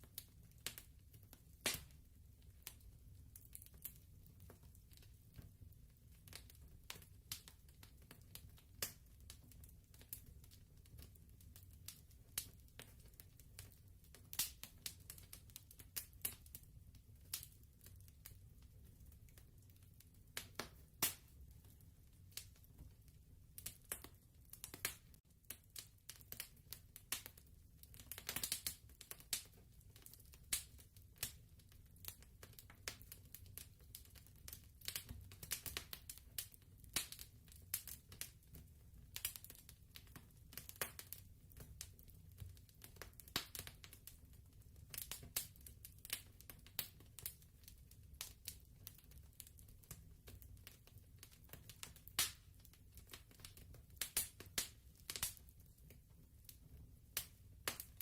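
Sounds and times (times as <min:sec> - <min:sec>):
fireplace crackling and popping: 0:00.0 - 0:58.0.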